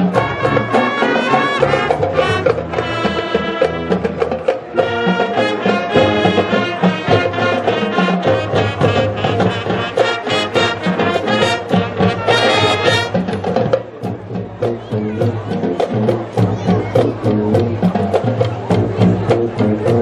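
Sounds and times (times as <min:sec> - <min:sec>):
brass horns playing: 0:00.0 - 0:13.6, 0:14.2 - 0:20.0
drumline beat: 0:00.0 - 0:20.0.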